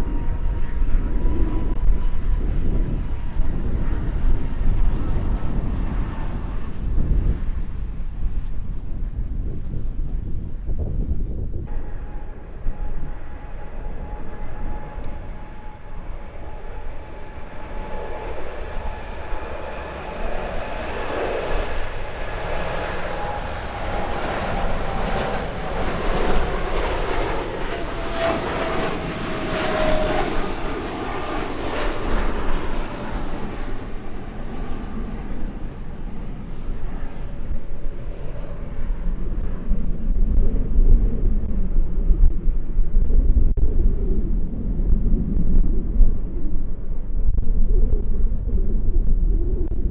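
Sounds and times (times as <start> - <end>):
aircraft engines passing by: 0.0 - 49.9
wind rumble on microphone: 0.0 - 49.9.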